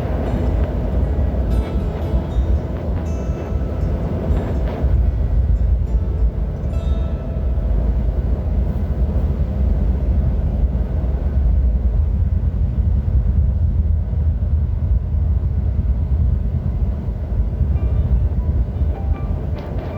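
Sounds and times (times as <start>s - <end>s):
strong wind buffeting microphone: 0.0s - 19.9s.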